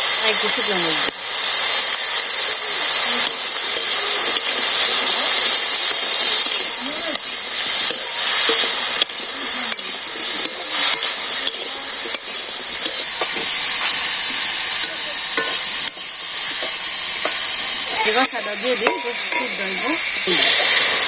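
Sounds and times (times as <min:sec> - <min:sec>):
chicken frying in oil: 0:00.0 - 0:21.0
spatula scraping a pan: 0:02.6 - 0:21.0.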